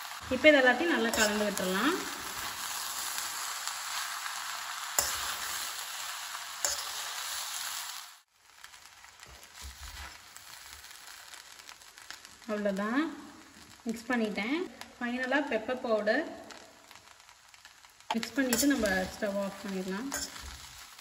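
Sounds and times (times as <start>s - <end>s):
rice sizzling in a pan: 0.0s - 21.0s.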